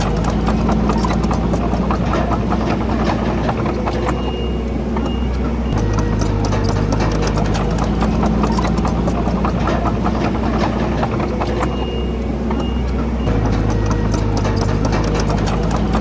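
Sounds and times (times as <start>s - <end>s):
bulldozer diesel engine running: 0.0s - 16.0s
rapid metal clanks and knocks: 0.0s - 16.0s.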